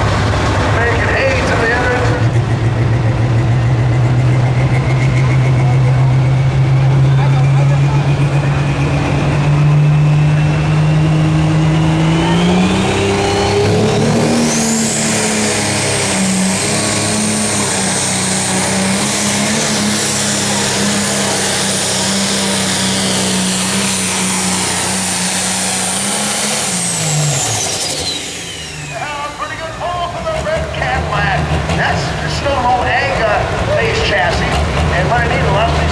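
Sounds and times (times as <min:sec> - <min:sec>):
diesel tractor engine at full power: 0:00.0 - 0:35.9
high turbo whine: 0:00.0 - 0:35.9.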